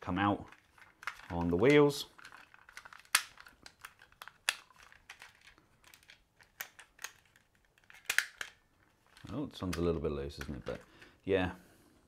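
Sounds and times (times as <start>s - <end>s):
plastic toy car clicking: 0.4s - 10.9s.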